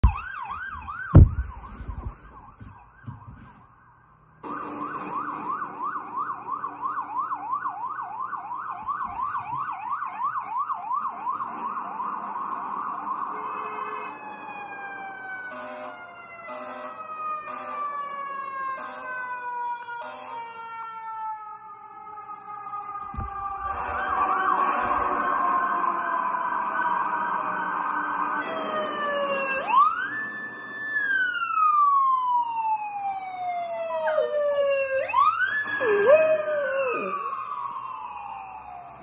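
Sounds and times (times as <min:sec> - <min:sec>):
emergency siren yelping and wailing: 0:00.0 - 0:39.0.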